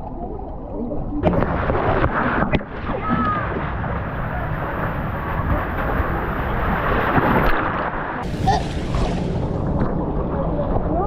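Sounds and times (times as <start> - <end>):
surf rumbling: 1.2 - 11.0
wind buffeting microphone: 1.2 - 11.0.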